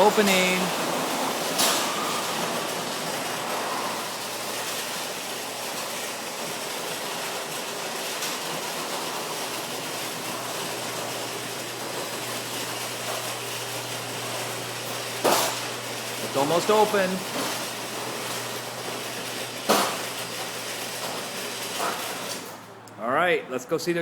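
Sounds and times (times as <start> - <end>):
garage door opener running: 0.0 - 23.0.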